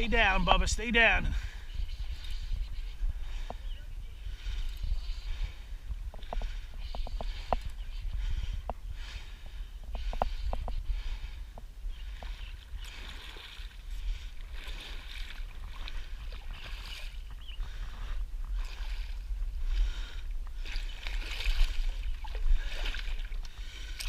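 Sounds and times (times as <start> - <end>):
water splashing and sloshing: 0.0 - 24.0
wind rumble on microphone: 0.0 - 24.0.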